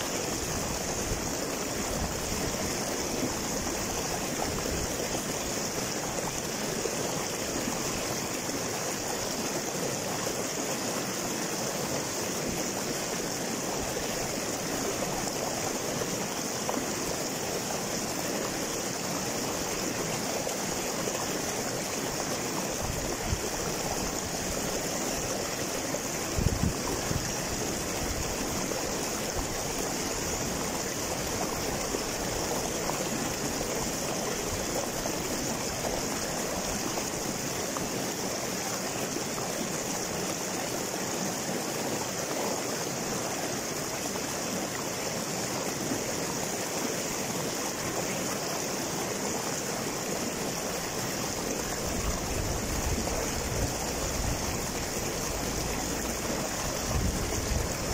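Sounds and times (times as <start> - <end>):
water rushing over boulders: 0.0 - 57.9.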